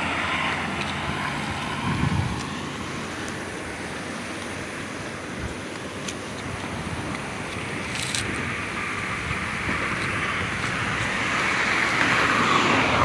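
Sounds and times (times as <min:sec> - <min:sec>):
cars passing on a bridge: 0:00.0 - 0:13.0.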